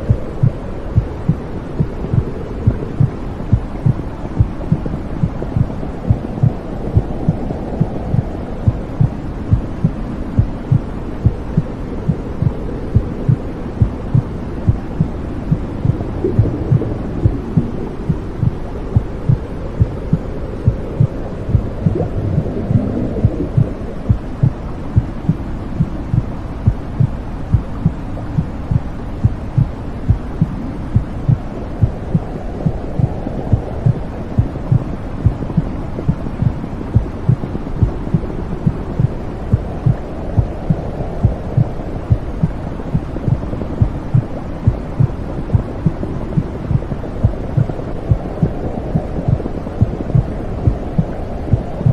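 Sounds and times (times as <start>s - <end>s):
heartbeat thumping: 0.0s - 51.9s
low whooshing rumble: 0.0s - 51.9s.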